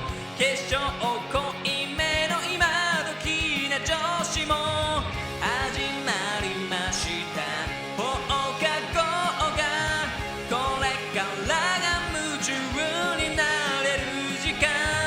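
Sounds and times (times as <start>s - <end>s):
backing track with drum beat: 0.0s - 15.0s
person singing: 0.0s - 15.0s.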